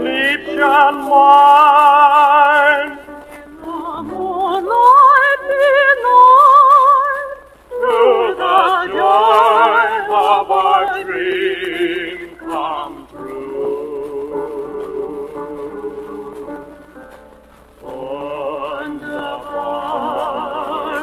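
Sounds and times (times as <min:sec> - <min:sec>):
man and woman singing duet: 0:00.0 - 0:16.9, 0:17.8 - 0:21.0
piano: 0:00.0 - 0:21.0.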